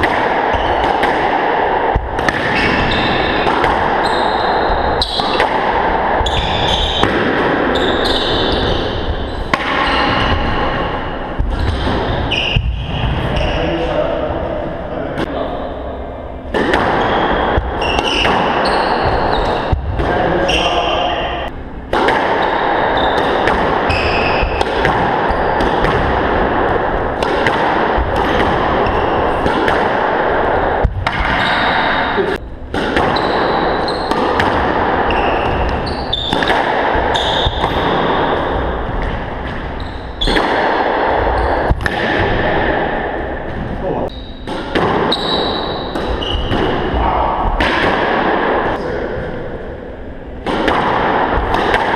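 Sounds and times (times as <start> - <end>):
squash ball smacks: 0.0 - 4.0, 4.6 - 12.9, 16.5 - 20.4, 21.9 - 32.0, 32.7 - 43.1, 44.4 - 48.5, 50.4 - 51.9.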